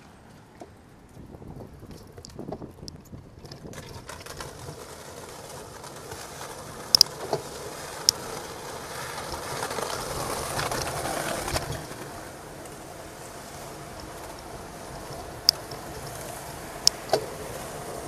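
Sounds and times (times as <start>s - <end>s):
tyre and wind noise: 0.0s - 18.0s.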